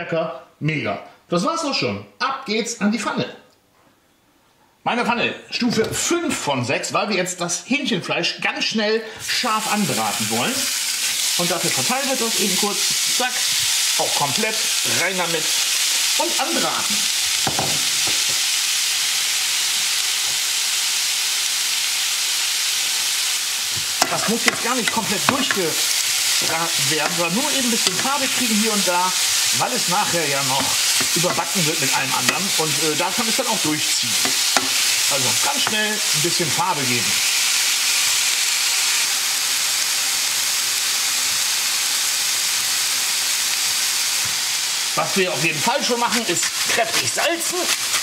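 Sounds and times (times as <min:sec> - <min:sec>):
chicken sizzling in a pan: 0:09.2 - 0:48.0.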